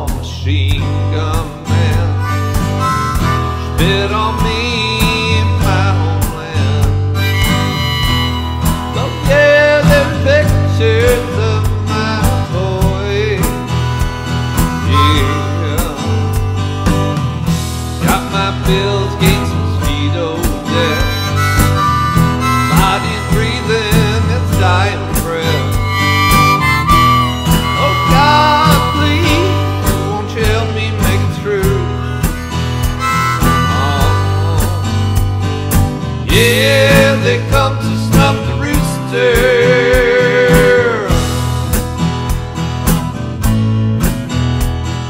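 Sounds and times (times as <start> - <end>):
electric bass: 0.0 - 45.0
steady drum beat: 0.0 - 45.0
strummed acoustic guitar: 0.0 - 45.0
harmonica lead line: 1.2 - 43.7.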